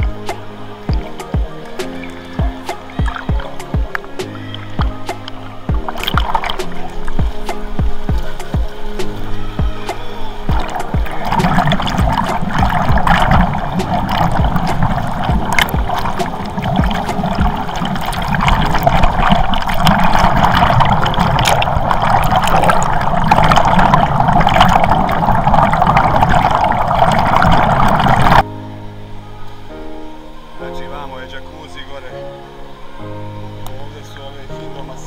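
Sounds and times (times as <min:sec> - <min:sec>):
air jets churning water: 0:00.0 - 0:28.5.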